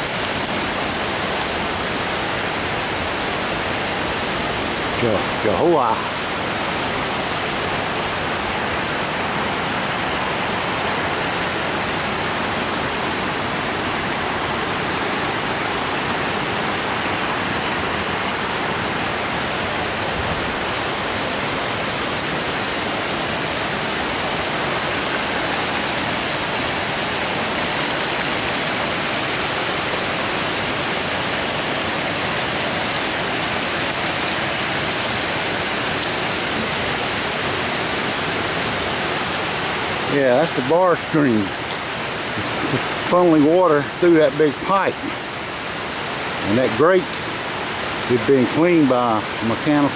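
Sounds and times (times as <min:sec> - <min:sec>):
water pouring over a dam: 0:00.0 - 0:49.9.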